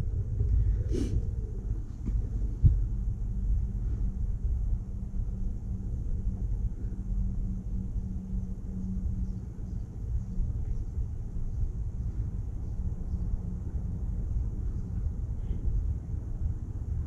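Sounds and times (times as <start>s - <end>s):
faint engine-like hum: 0.0s - 17.0s
low outdoor rumble: 0.0s - 17.0s.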